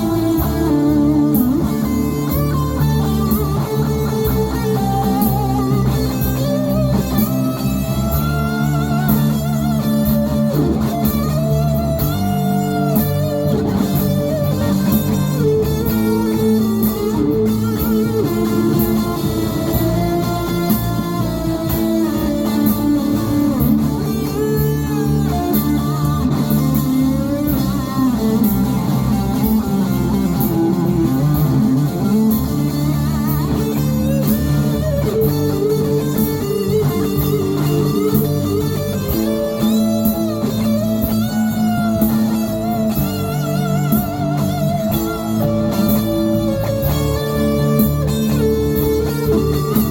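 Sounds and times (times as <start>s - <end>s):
guitar instrumental music: 0.0s - 49.9s.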